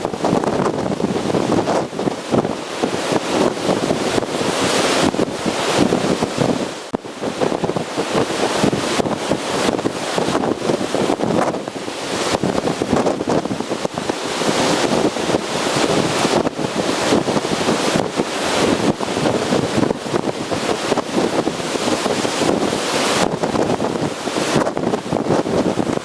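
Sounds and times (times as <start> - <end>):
storm waves breaking: 0.0 - 26.0
wind gusts buffeting microphone: 0.0 - 26.0.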